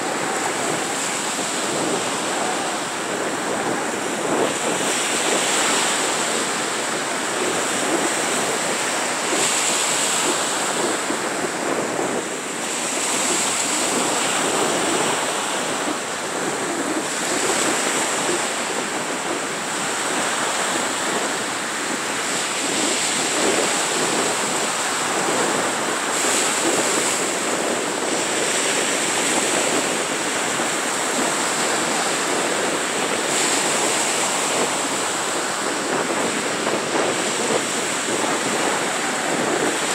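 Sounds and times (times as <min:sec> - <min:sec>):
small waves washing on beach: 0:00.0 - 0:39.9.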